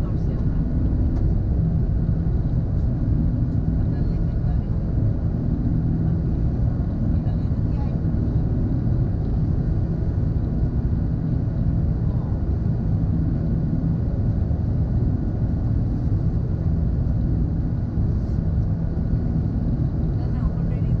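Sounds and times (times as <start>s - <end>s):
aircraft cabin low rumble: 0.0s - 21.0s
airflow around fuselage: 0.0s - 21.0s
jet engines: 0.0s - 21.0s.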